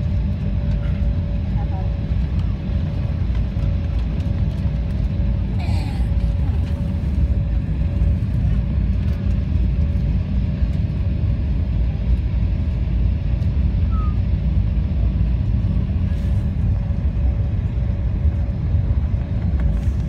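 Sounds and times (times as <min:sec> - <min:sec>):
airliner taxiing rumble: 0:00.0 - 0:20.0.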